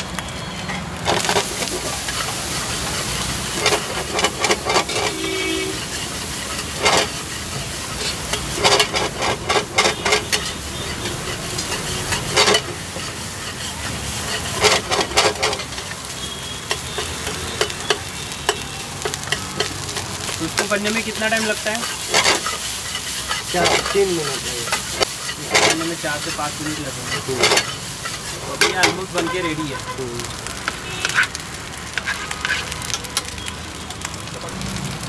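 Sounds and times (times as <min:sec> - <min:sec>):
food sizzling in pan: 0:00.0 - 0:35.0
metal spatula scraping pan: 0:00.4 - 0:29.7, 0:31.0 - 0:33.0.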